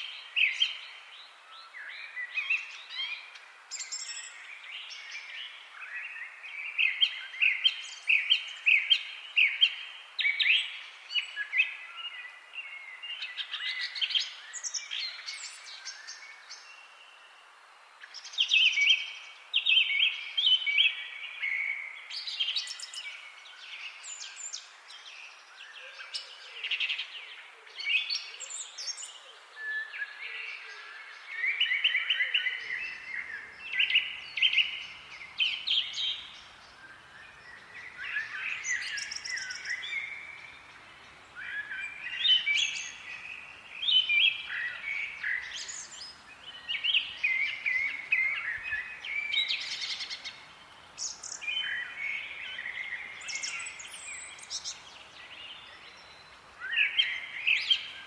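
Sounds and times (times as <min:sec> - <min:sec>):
faint background hiss: 0:00.0 - 0:58.0
songbirds chirping and singing: 0:00.0 - 0:58.0.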